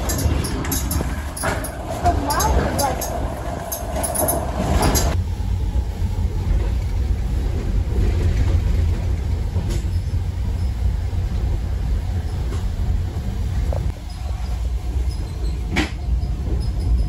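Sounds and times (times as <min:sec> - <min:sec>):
train carriage rumbling: 0:00.0 - 0:17.0.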